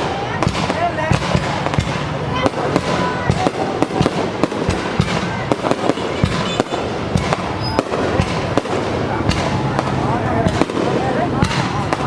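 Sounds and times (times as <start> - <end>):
continuous noisy rumble: 0.0 - 12.0
fireworks banging: 0.0 - 12.0.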